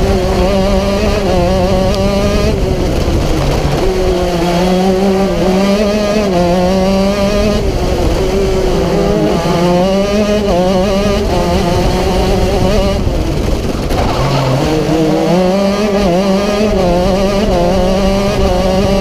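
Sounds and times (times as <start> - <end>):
kart engine at high revs: 0.0 - 19.0.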